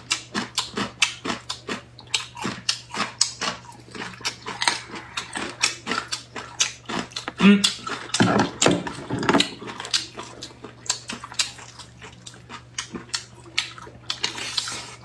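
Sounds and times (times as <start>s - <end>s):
people chewing and biting: 0.0s - 15.0s.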